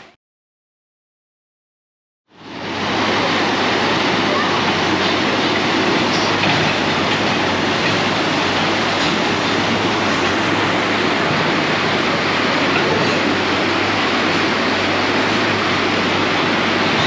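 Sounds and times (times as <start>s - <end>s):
rushing pumped water: 2.3s - 17.0s.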